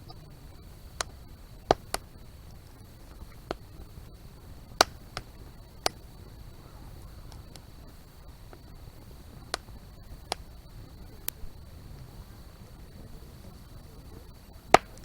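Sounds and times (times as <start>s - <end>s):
low steady background: 0.0s - 15.0s
sharp pops: 0.0s - 15.0s
wood fire crackling: 0.0s - 15.0s.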